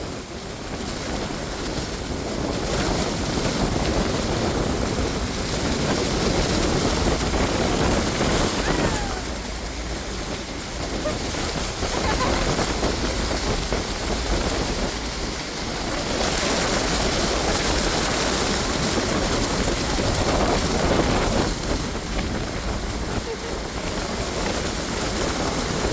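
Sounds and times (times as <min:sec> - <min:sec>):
waterfall roaring: 0:00.0 - 0:25.9.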